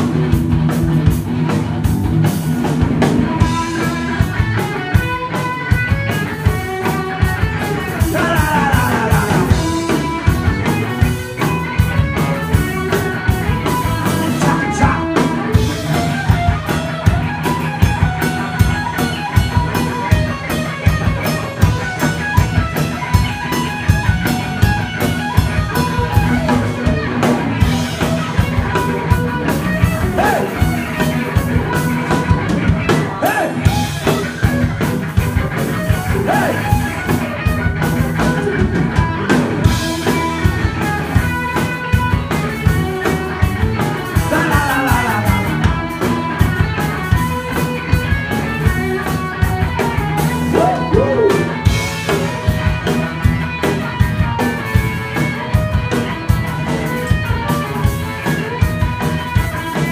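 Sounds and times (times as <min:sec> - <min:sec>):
drum kit beat: 0:00.0 - 0:59.9
electric guitar: 0:00.0 - 0:59.9
live rock band playing: 0:00.0 - 0:59.9.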